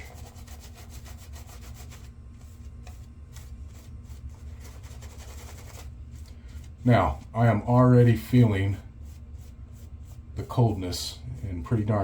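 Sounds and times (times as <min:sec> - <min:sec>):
shaving brush scrubbing lather: 0:00.0 - 0:12.0.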